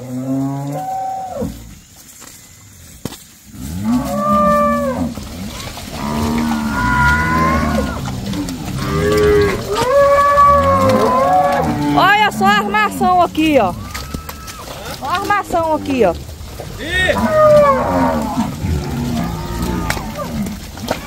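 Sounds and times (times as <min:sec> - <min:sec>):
cattle mooing: 0:03.6 - 0:21.0.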